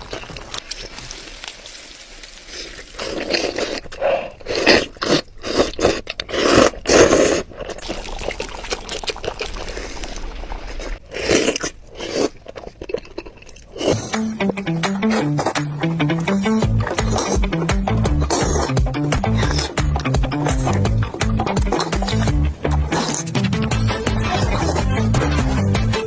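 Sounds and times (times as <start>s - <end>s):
chewing and crunching food: 0.0s - 26.0s.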